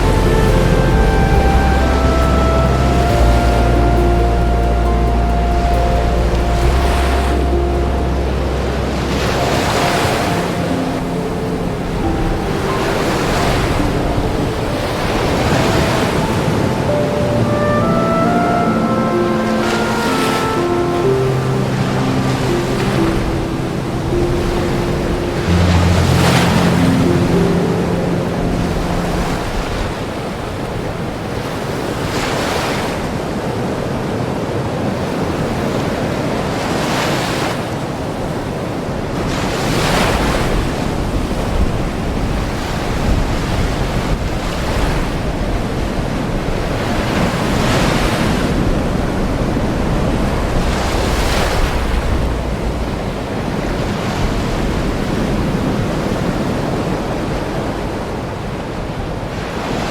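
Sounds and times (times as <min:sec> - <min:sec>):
ocean surf rushing: 0:00.0 - 0:59.9.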